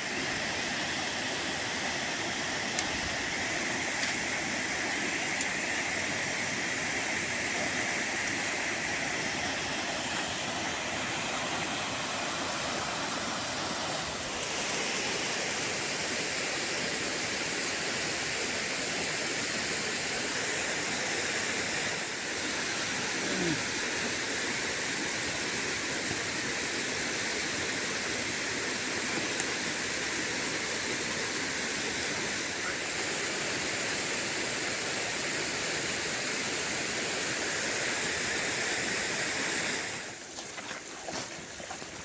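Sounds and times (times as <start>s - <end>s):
running water rushing: 0.0s - 42.0s.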